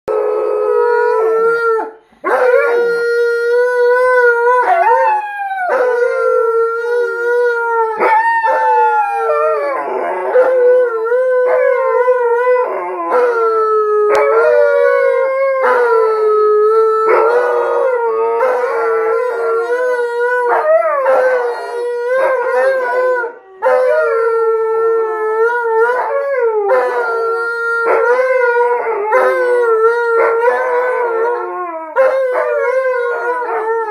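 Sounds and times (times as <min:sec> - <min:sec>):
dogs howling: 0:00.1 - 0:33.9.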